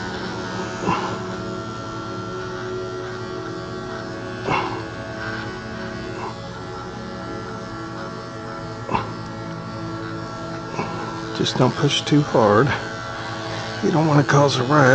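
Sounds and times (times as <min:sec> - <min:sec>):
electric clipper buzzing: 0:00.0 - 0:14.9.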